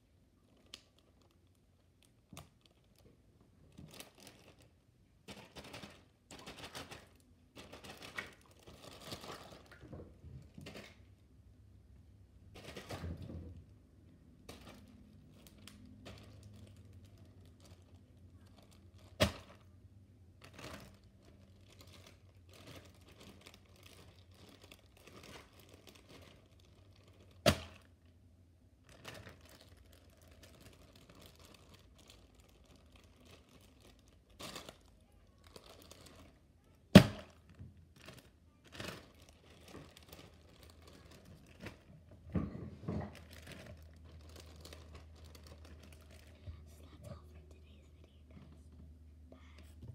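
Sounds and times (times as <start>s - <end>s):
plastic bag crinkling: 0.0s - 11.1s, 14.4s - 19.8s, 20.4s - 28.1s, 28.8s - 42.3s, 42.9s - 46.5s.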